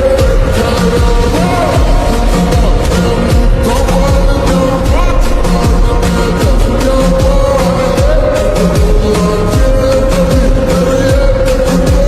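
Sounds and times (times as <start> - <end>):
electronic beat with sweeping bass: 0.0 - 12.0
person singing: 0.0 - 12.0.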